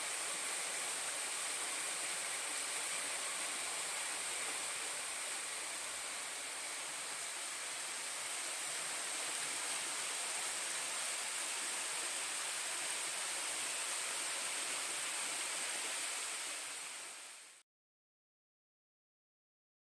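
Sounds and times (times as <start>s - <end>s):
stream water rushing over rocks: 0.0s - 17.6s.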